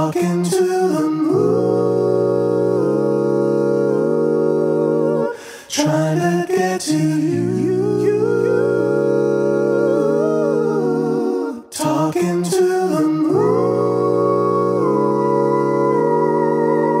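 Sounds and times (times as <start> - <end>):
a cappella vocal harmony: 0.0 - 17.0.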